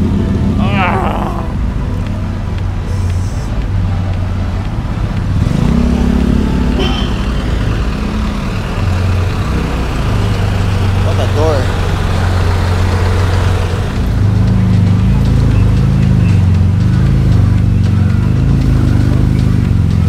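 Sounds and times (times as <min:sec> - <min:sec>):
street traffic: 0:00.0 - 0:20.0
vehicle engine idling: 0:00.0 - 0:20.0.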